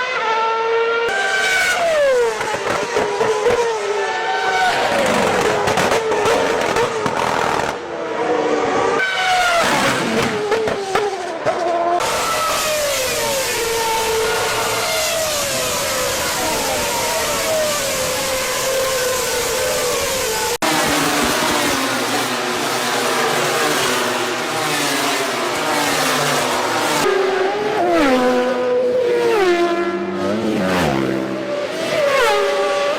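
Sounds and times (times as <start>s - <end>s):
racing engines passing: 0.0s - 32.9s.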